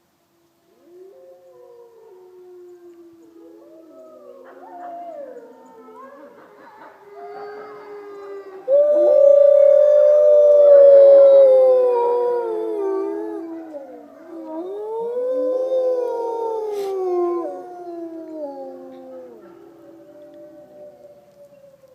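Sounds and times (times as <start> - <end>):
wolves howling: 0.7 - 21.9.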